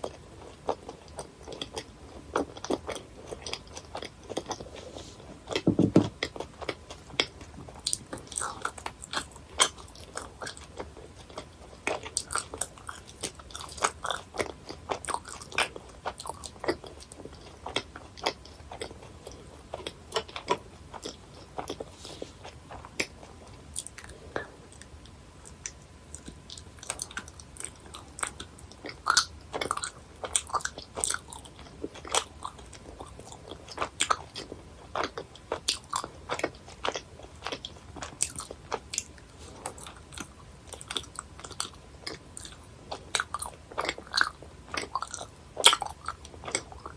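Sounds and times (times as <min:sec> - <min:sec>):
chewing gummy candies: 0:00.0 - 0:46.9.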